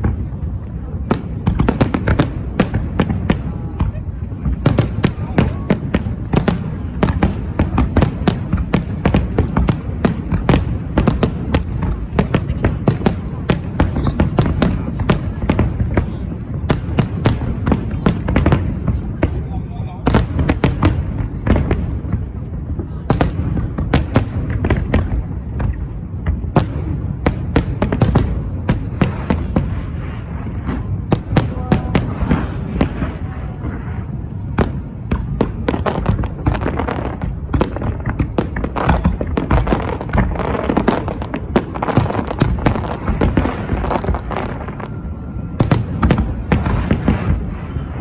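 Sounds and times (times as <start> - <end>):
fireworks bursts: 0.0 - 48.0
low booming: 0.0 - 48.0.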